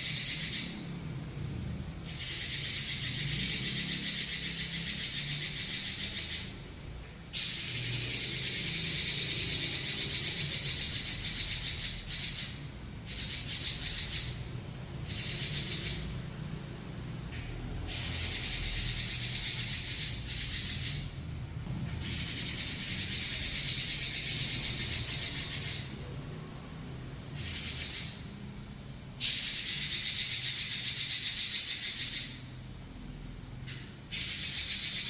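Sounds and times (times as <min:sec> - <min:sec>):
bird singing fast rolling trills: 0:00.0 - 0:01.0, 0:02.0 - 0:16.5, 0:17.7 - 0:21.4, 0:22.0 - 0:28.5, 0:29.2 - 0:32.6, 0:34.1 - 0:35.0.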